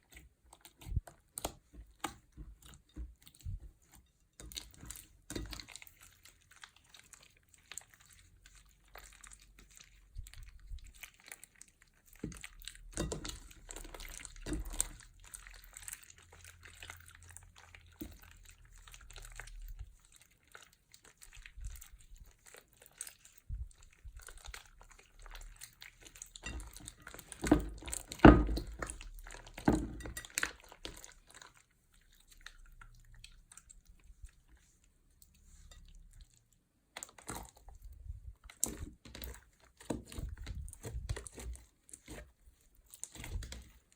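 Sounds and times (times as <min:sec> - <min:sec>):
slime squelching by hand: 0:00.0 - 0:43.9.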